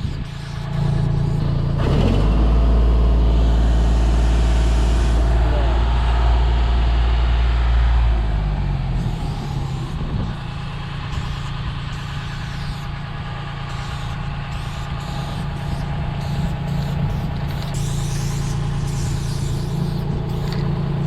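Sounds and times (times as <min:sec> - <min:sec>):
heavy engine running: 0:00.0 - 0:21.0.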